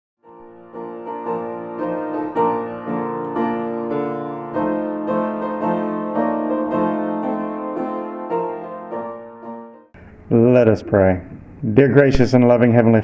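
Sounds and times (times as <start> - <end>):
piano music: 0.2 - 12.1.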